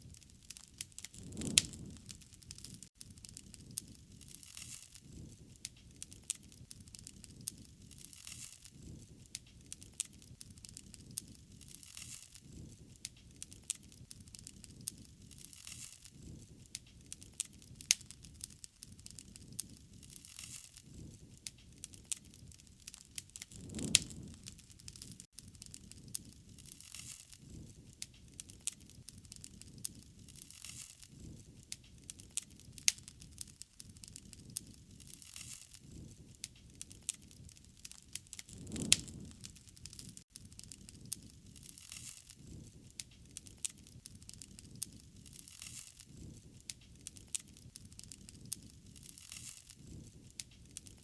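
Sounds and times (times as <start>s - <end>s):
wood fire crackling and popping: 0.0s - 51.0s
low rushing of fire: 0.1s - 11.8s, 19.0s - 33.2s, 33.8s - 51.0s.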